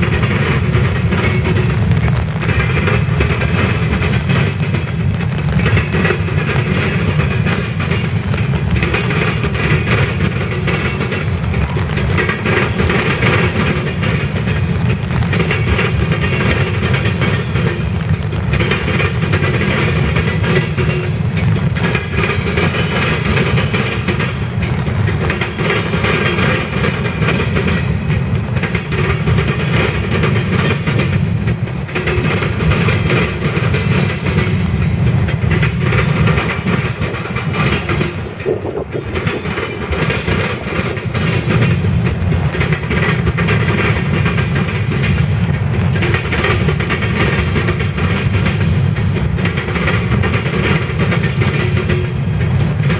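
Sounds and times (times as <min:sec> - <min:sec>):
train wheels rumbling on rail: 0:00.0 - 0:52.9
wheels clicking over rail joints: 0:00.0 - 0:52.9.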